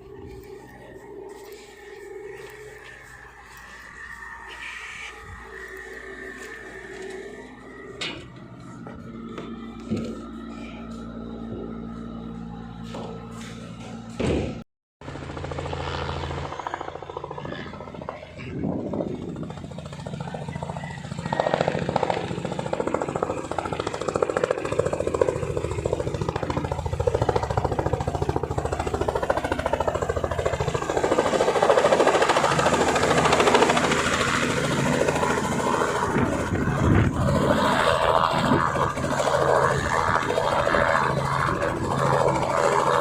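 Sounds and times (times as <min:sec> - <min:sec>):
helicopter rotor and engine: 0:00.0 - 0:43.0.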